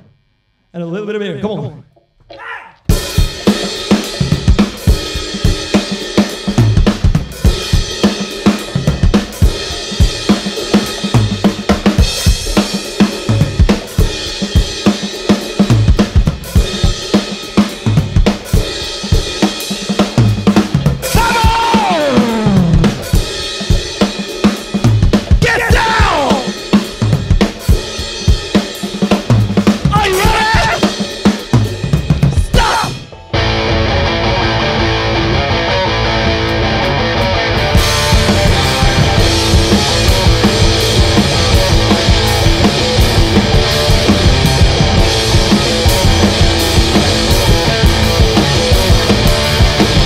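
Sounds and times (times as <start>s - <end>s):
drum kit played hard: 2.8s - 50.0s
punk band playing: 2.8s - 50.0s.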